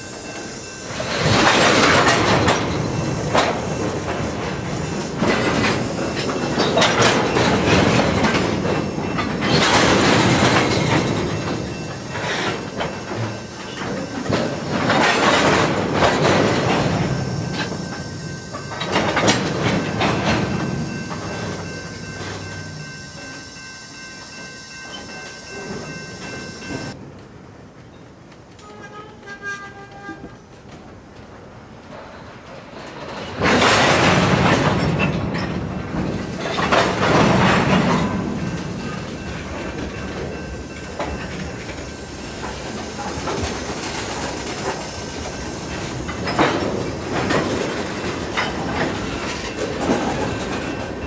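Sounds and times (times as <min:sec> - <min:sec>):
freight train wheels clattering: 0:00.0 - 0:27.0, 0:29.9 - 0:51.0.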